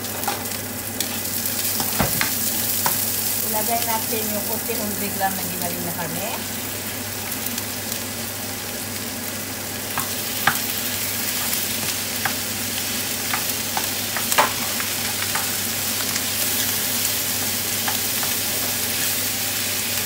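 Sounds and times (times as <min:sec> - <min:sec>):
mince sizzling in a wok: 0:00.0 - 0:20.0.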